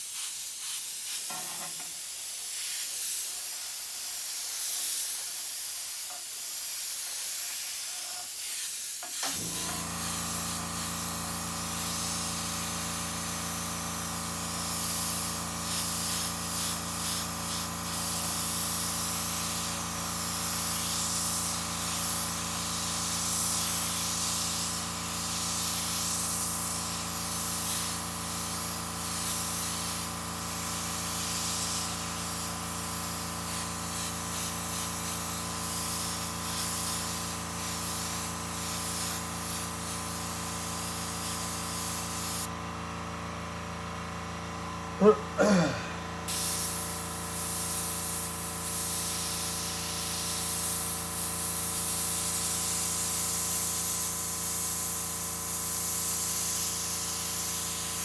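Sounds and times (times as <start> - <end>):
airbrush spraying hisses: 0.0 - 42.5, 45.0 - 58.0
air compressor humming: 9.1 - 58.0.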